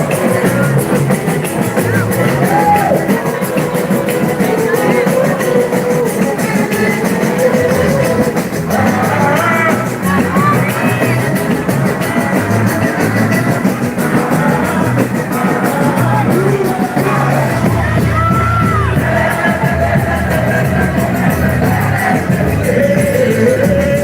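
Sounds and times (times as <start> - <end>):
band with drums and plucked strings: 0.0 - 24.0
person singing: 0.0 - 24.0.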